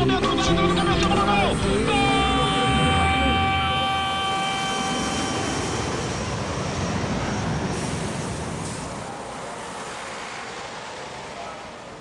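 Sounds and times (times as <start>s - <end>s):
passing vehicles rumbling: 0.0s - 12.0s.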